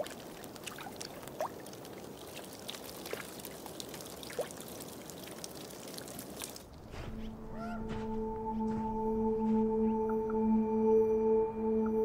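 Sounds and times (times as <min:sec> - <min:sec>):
meltwater trickling and gurgling: 0:00.0 - 0:10.4.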